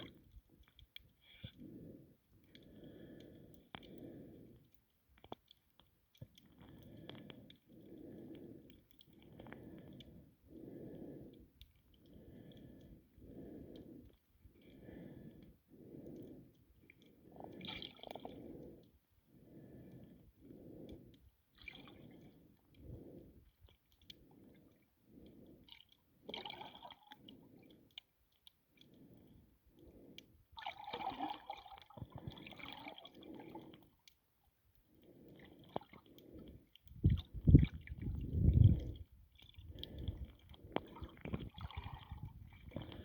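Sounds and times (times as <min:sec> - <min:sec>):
muffled underwater water sloshing: 0:00.0 - 0:43.0.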